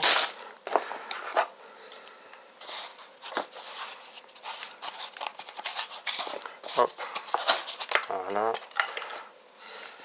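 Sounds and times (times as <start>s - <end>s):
plastic bag rustling: 0.0s - 1.5s, 2.6s - 9.3s.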